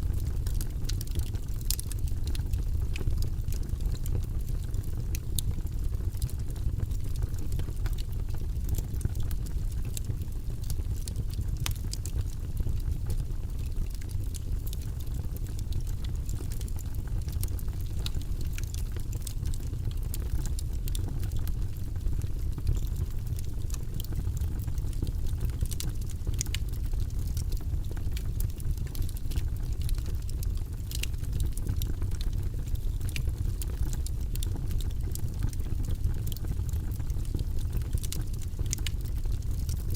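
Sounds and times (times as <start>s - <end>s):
logs burning in fireplace: 0.0s - 39.9s.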